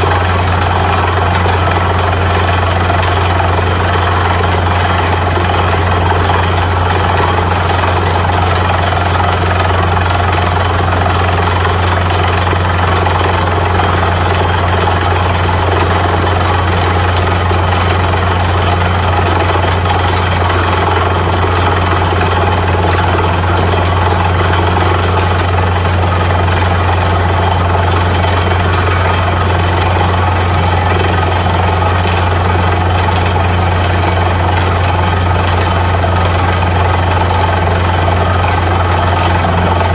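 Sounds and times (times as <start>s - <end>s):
drilling rig low drone: 0.0s - 39.9s.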